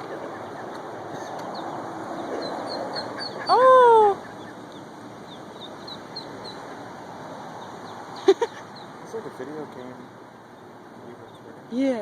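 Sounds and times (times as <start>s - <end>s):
ducklings peeping: 0.0s - 9.4s, 10.0s - 11.6s
outdoor background noise: 0.0s - 12.0s.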